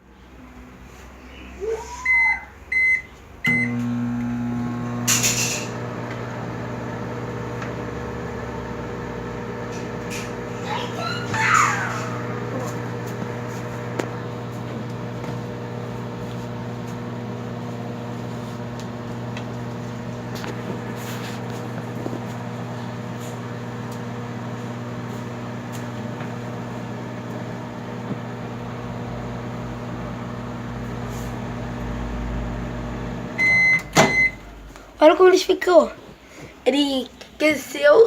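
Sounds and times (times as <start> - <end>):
microwave humming: 2.1 - 34.9.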